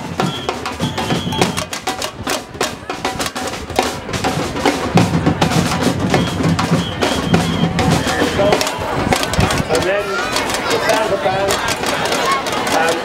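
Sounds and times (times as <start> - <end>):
drumming band playing fast rhythm: 0.0 - 13.0.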